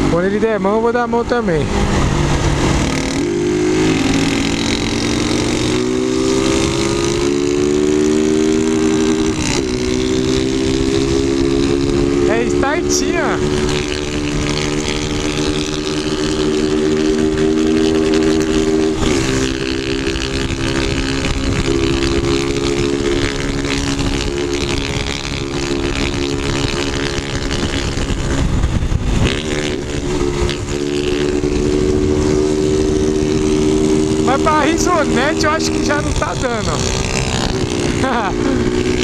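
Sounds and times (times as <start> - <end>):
small motorcycles with loud exhausts: 0.0 - 39.0.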